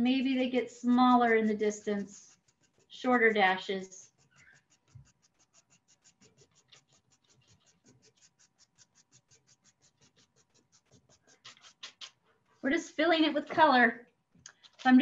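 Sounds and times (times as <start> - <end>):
crayon scratching on paper: 0.0 - 12.2.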